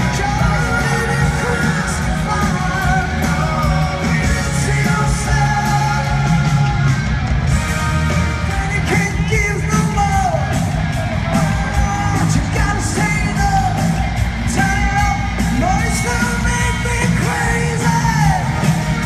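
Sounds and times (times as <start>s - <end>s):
lead vocals singing: 0.0s - 7.3s, 8.4s - 19.0s
drums: 0.0s - 19.0s
electric guitar: 0.0s - 19.0s.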